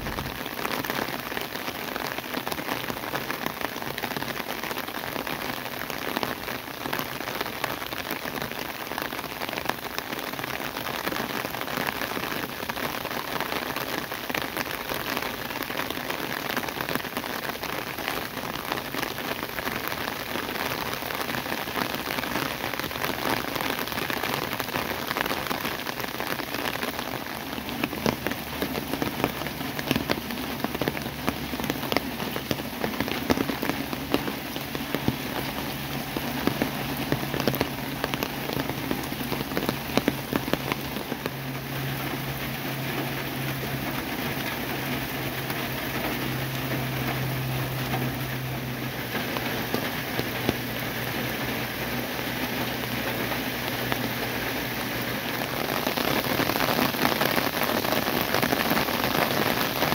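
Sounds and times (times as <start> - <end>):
individual raindrop impacts: 0.0 - 59.9
steady rain on flooded ground: 0.0 - 59.9.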